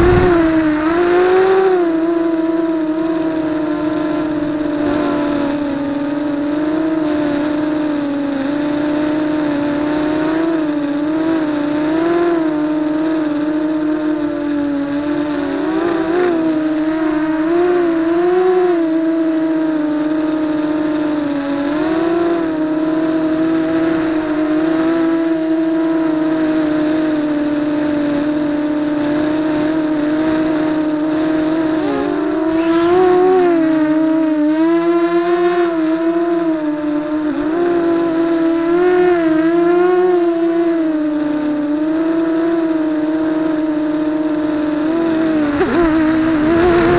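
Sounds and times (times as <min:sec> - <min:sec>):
quadcopter motors whining: 0:00.0 - 0:46.9.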